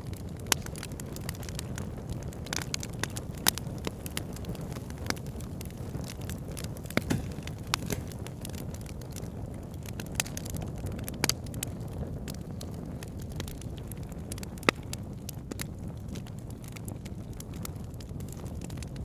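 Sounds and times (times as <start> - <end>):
fire crackling and popping: 0.0 - 19.0
fire rumbling: 0.0 - 19.0.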